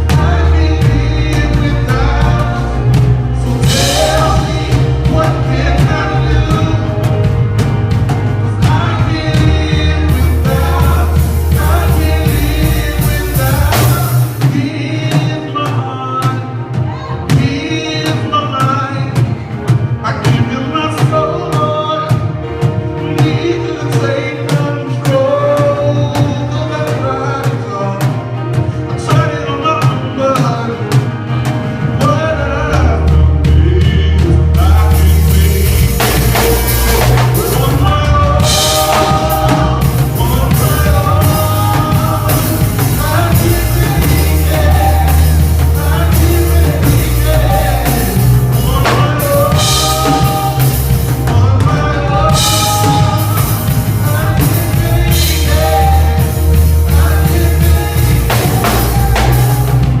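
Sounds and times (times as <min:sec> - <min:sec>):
person singing: 0:00.0 - 0:07.8, 0:08.4 - 1:00.0
gospel song with drums and bass: 0:00.0 - 1:00.0.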